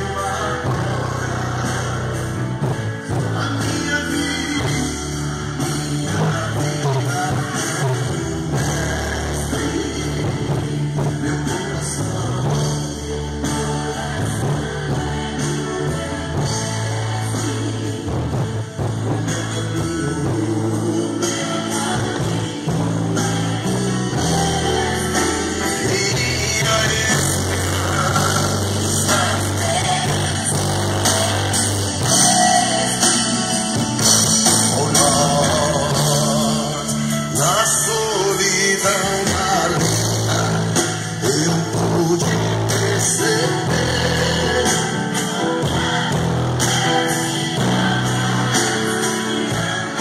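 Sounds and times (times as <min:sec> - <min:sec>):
heavy bass line: 0:00.0 - 0:50.0
loud instrumental gospel music: 0:00.0 - 0:50.0.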